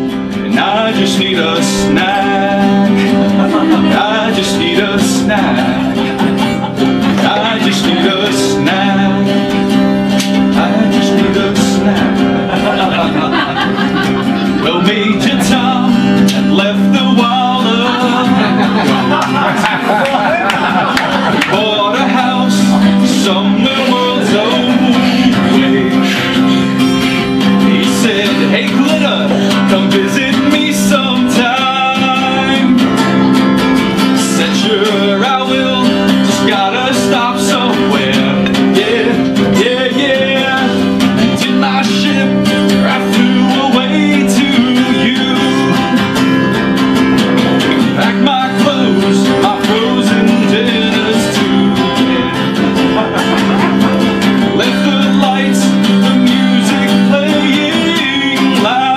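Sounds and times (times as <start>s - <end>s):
live guitar music: 0.0s - 58.9s.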